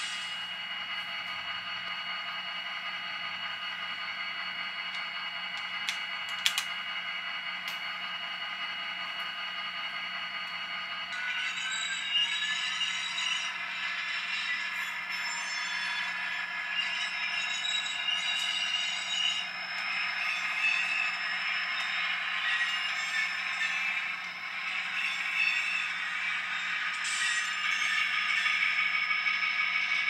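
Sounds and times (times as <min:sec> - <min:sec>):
model locomotive motor whine: 0:00.0 - 0:30.0.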